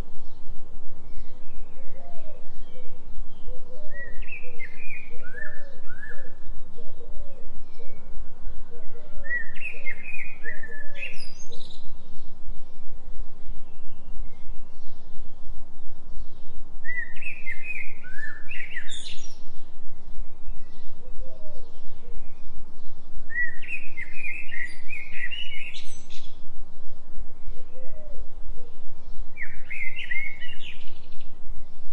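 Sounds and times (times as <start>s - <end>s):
songbird singing: 0.0s - 31.9s.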